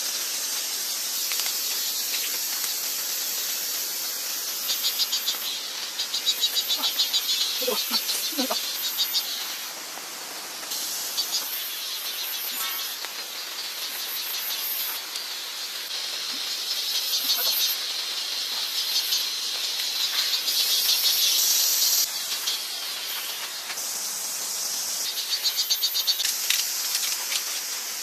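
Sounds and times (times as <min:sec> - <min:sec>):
insects buzzing: 0:00.0 - 0:28.0.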